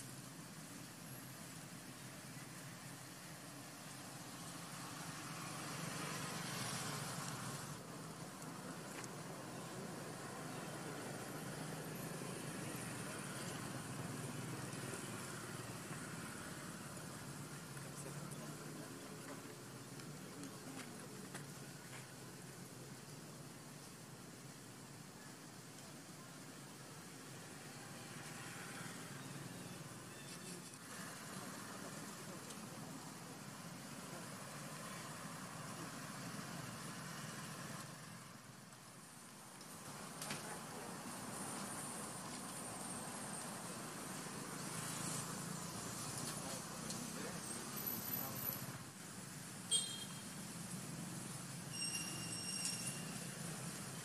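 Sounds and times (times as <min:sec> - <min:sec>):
even outdoor hiss: 0:00.0 - 0:54.0.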